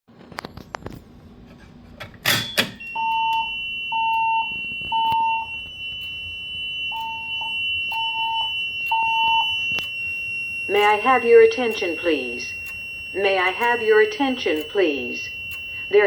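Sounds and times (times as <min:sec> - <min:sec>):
fire alarm beeping: 0:02.3 - 0:16.0
steady high-pitched tone: 0:02.8 - 0:16.0.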